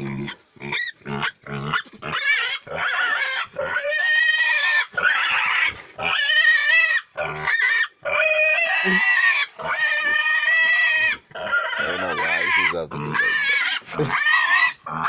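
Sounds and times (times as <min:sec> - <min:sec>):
piglet squealing: 0:00.0 - 0:15.0.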